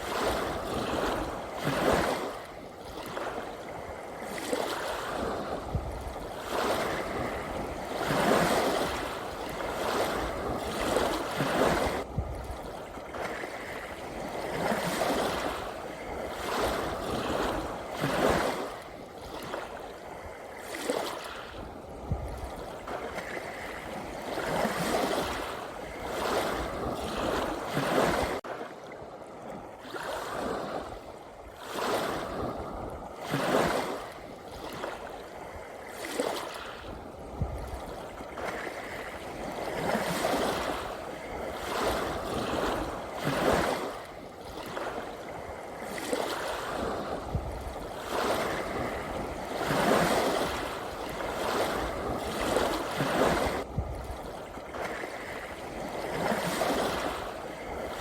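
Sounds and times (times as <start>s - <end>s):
sea waves breaking: 0.0s - 58.0s.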